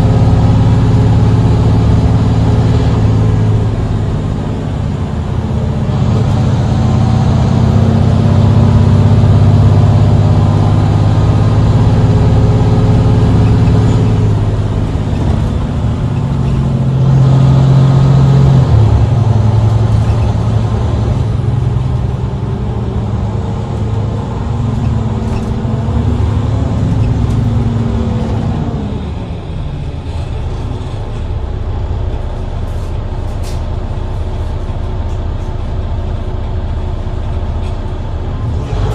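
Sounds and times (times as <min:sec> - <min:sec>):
bus diesel engine pulling hard: 0:00.0 - 0:38.9.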